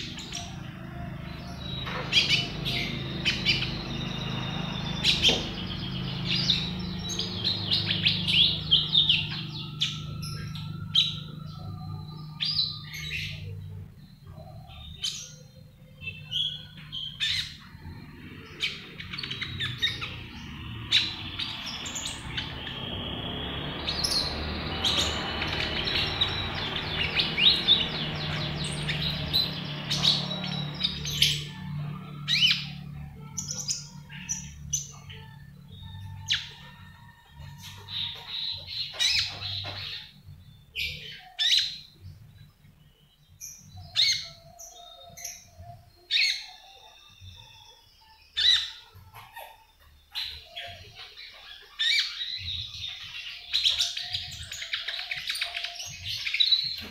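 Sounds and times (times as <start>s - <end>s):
parakeet chirping and squawking: 0.0s - 36.8s, 37.5s - 40.2s, 48.4s - 56.9s.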